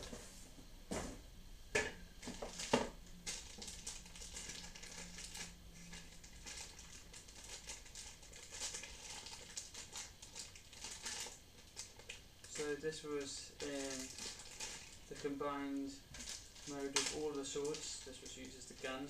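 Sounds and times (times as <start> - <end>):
plastic wrapping crinkling: 2.2 - 15.4, 16.1 - 19.0.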